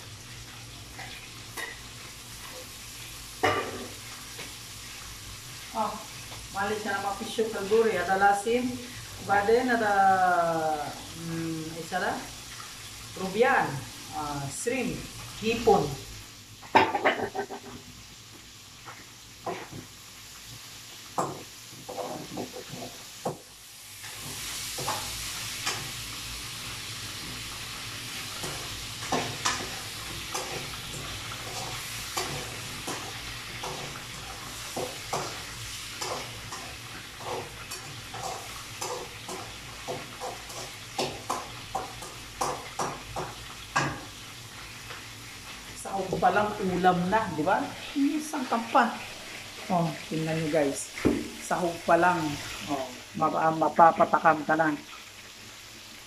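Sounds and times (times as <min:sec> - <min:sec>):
shrimp sizzling in oil: 0:00.0 - 0:56.0.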